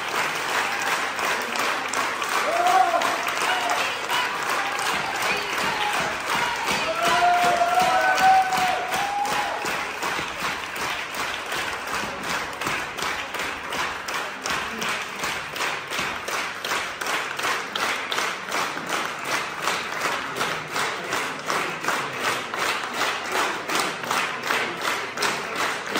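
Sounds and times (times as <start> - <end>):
audience applauding rhythmically: 0.0 - 25.9.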